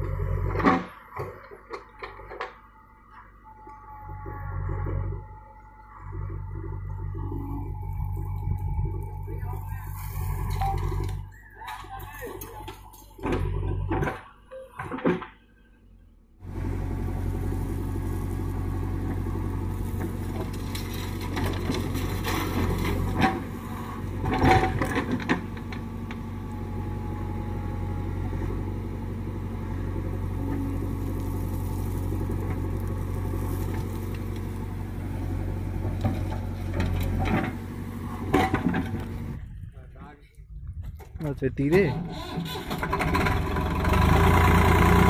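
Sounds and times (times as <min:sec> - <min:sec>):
diesel engine running: 0:00.0 - 0:40.1, 0:41.6 - 0:45.0.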